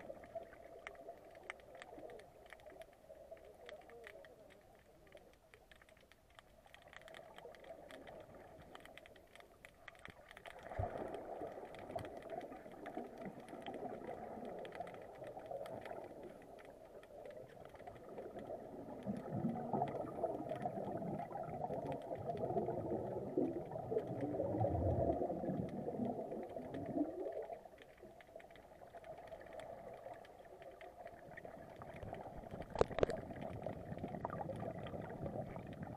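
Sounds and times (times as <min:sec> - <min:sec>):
underwater air bubbling: 0:06.6 - 0:35.9.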